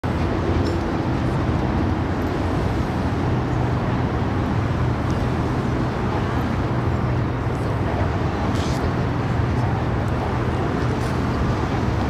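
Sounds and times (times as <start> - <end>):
constant low hum: 0.0 - 12.0
low engine rumble: 0.0 - 12.0.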